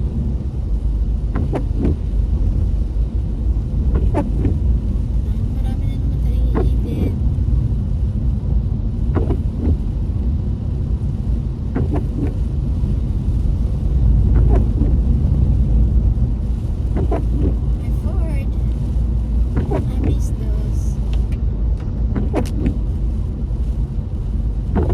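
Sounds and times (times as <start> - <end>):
car cabin rumble: 0.0 - 24.9.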